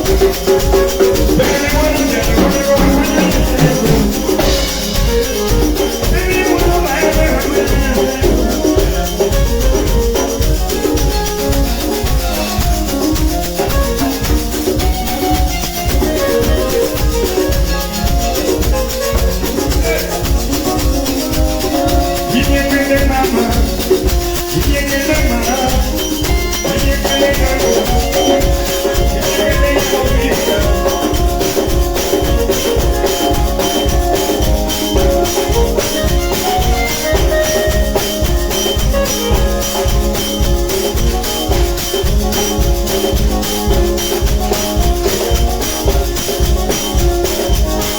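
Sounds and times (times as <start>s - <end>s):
band playing dance music: 0.0s - 47.9s
drum beat: 0.0s - 47.9s
shakers: 0.0s - 47.9s.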